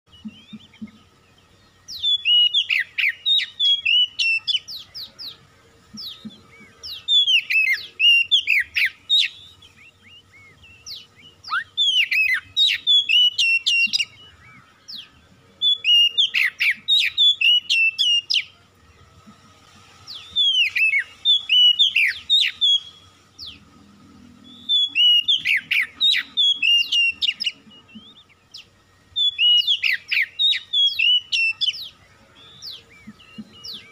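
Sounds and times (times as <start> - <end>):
bird singing whistled phrases: 1.9 - 5.4, 6.0 - 18.5, 20.1 - 23.6, 24.4 - 33.9.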